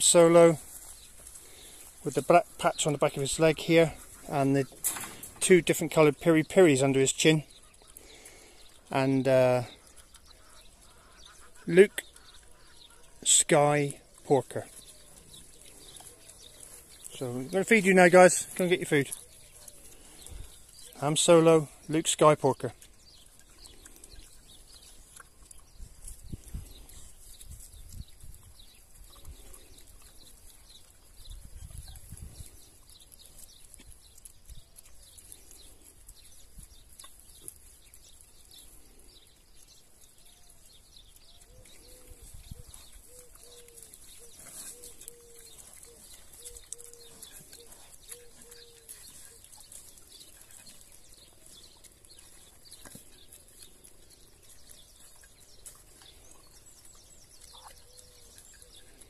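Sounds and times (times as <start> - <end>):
birds chirping: 0.0 - 59.0
piglets rooting in grass: 0.0 - 59.0.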